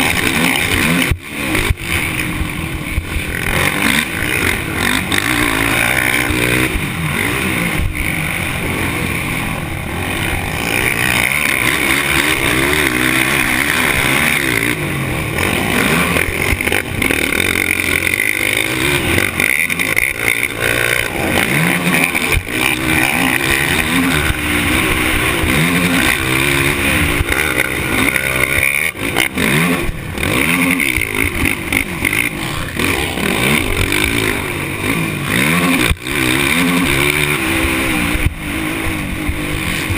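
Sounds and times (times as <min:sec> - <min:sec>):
racing engines revving and shifting: 0:00.0 - 0:39.9.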